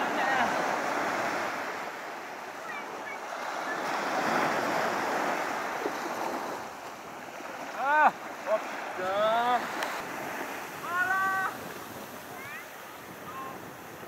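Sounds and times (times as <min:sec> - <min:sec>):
sea waves washing up beach: 0:00.0 - 0:14.0.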